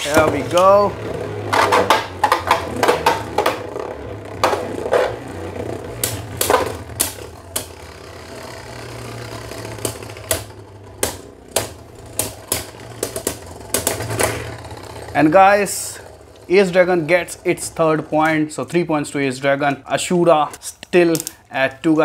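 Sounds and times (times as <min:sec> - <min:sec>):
steady low hum: 0:00.0 - 0:20.8.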